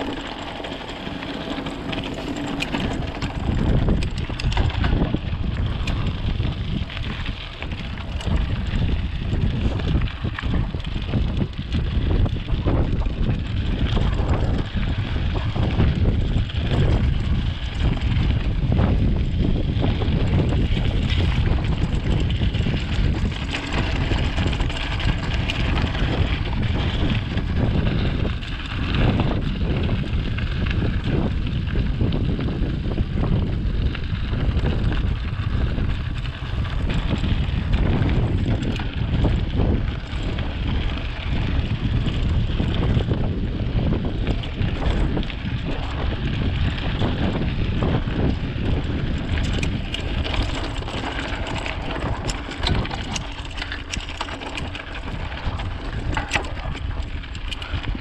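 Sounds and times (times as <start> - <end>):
bike rattling on dirt trail: 0.0 - 58.0
wind on microphone: 0.0 - 58.0.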